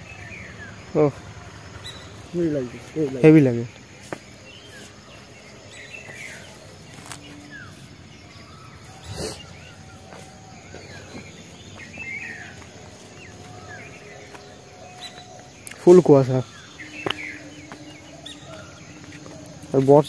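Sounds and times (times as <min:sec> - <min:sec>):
birds chirping: 0:00.0 - 0:20.0
steady outdoor hiss: 0:00.0 - 0:20.0.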